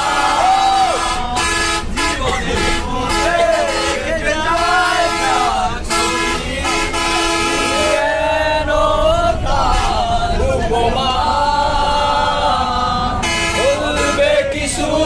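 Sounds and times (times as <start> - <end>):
bus engine rumble: 0.0 - 15.0
young men singing together: 0.0 - 15.0.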